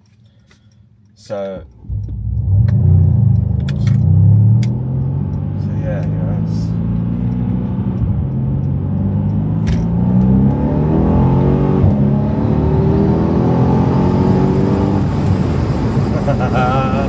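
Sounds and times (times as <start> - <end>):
car engine accelerating hard: 1.8 - 17.0.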